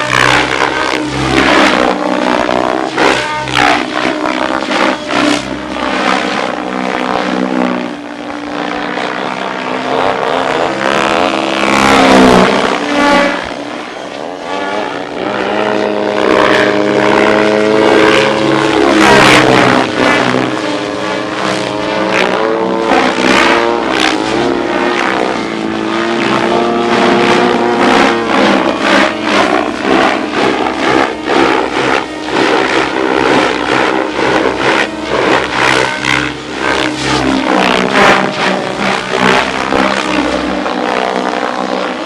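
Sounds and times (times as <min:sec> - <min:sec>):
model helicopter whine: 0:00.0 - 0:42.0
rotor blades whooshing: 0:00.0 - 0:42.0.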